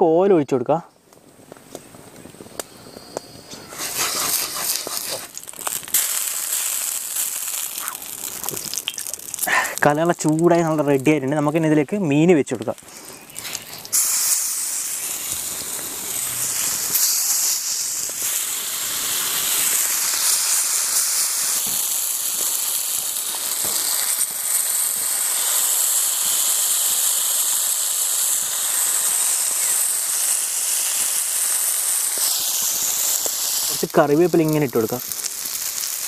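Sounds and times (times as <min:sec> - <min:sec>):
fish sizzling in hot oil: 0:02.4 - 0:36.0.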